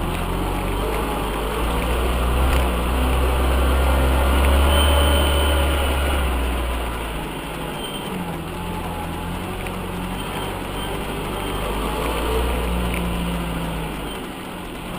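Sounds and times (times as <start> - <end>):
off-road vehicle engine rumbling: 0.0 - 14.9.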